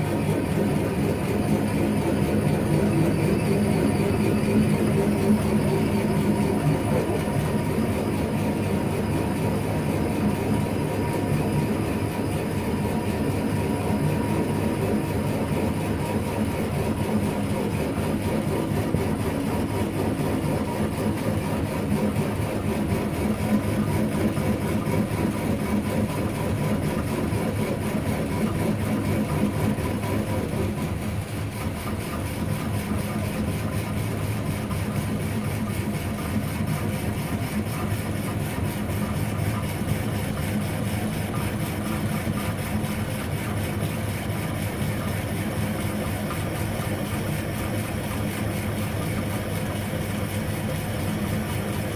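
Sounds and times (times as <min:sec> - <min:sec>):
lathe motor humming: 0:00.0 - 0:51.9.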